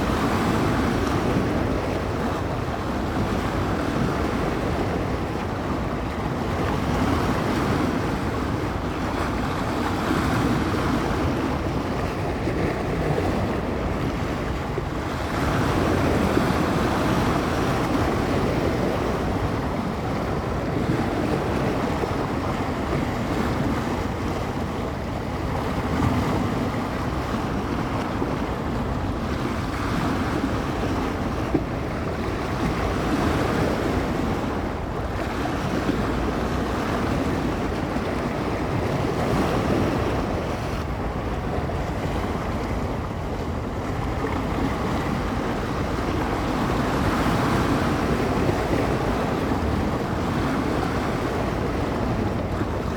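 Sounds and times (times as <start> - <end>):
waves breaking on shore: 0.0 - 52.9
wind blowing across microphone: 0.0 - 52.9.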